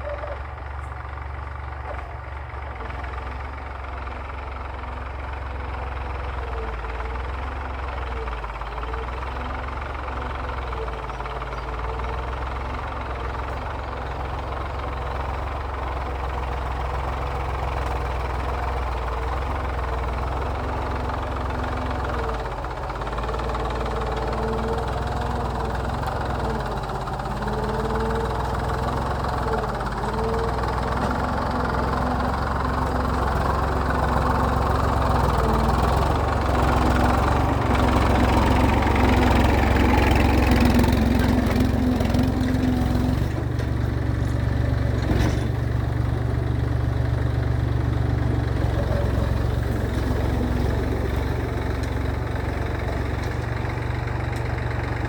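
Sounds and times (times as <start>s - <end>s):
tractor engine under load: 0.0s - 55.0s.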